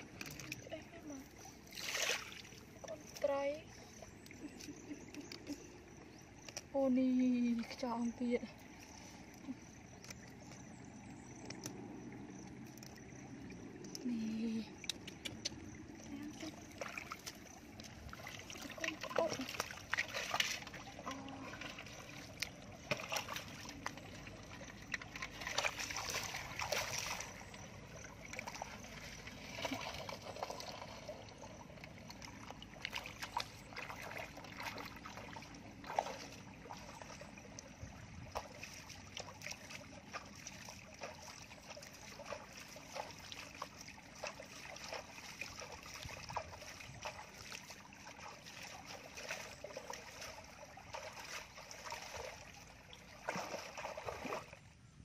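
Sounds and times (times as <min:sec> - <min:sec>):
feet wading through muddy water: 0:00.0 - 0:55.0.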